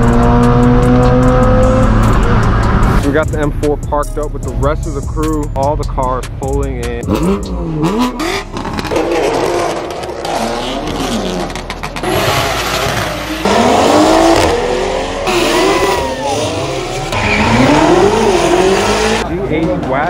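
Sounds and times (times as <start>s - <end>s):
car engines revving and accelerating: 0.0s - 4.4s, 6.3s - 20.0s.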